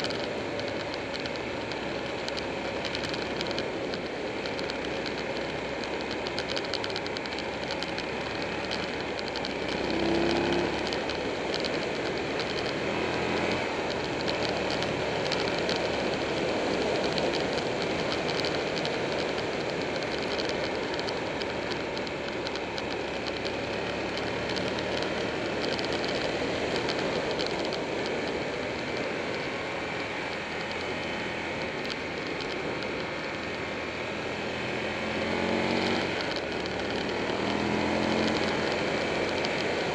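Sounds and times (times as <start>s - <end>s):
motorcycle engine running: 0.0s - 39.9s
wind rushing over camera: 0.0s - 39.9s.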